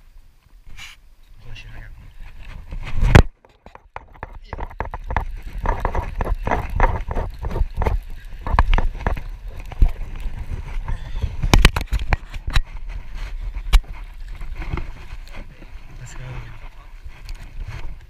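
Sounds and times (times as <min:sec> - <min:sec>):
wind rumbling on microphone: 0:00.0 - 0:18.0
rustling: 0:00.6 - 0:18.0.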